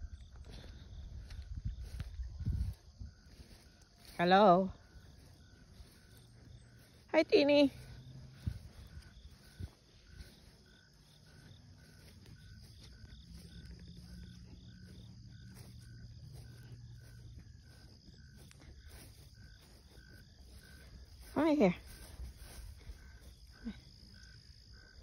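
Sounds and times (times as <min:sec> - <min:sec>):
faint insect chirping: 0:00.0 - 0:25.0.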